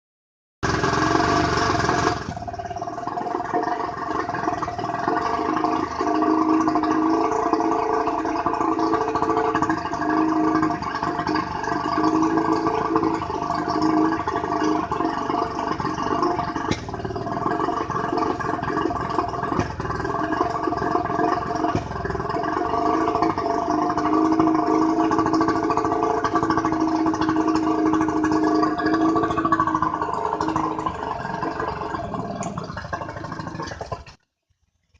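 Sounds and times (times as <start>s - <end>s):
outboard motor wavering: 0.6s - 34.2s.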